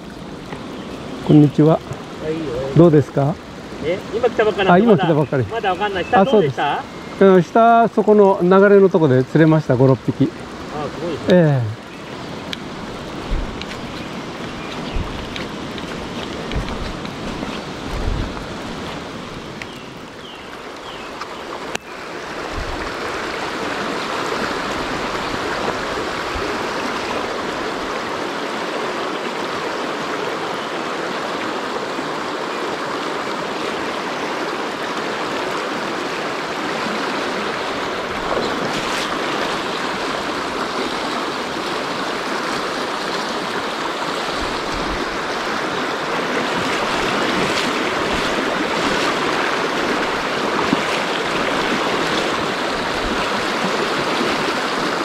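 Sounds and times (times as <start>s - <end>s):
stream rushing over stones: 0.0s - 55.0s.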